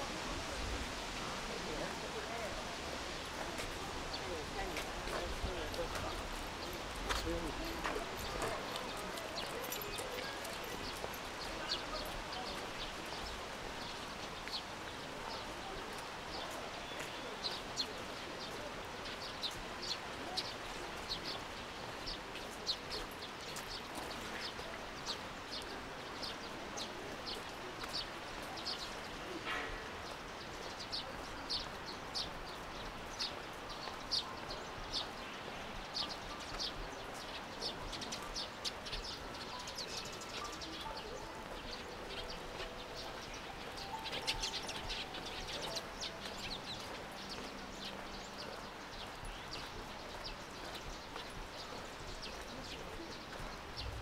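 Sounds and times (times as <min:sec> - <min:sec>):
steady background noise: 0:00.0 - 0:54.0
small birds chirping: 0:01.7 - 0:54.0.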